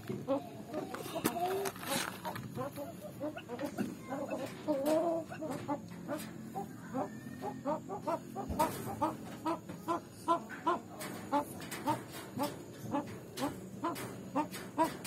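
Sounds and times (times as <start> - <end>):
fowl clucking: 0.1 - 15.0.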